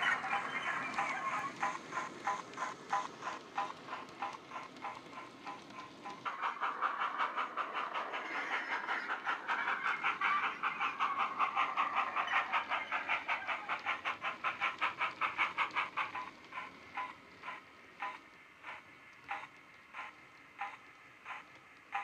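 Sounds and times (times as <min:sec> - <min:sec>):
model steam engine chuffing: 0:00.0 - 0:22.0.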